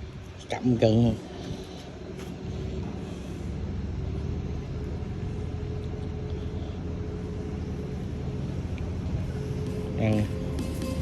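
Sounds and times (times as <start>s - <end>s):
motor rumbling: 0.0s - 11.0s
steady hum tone: 0.0s - 11.0s.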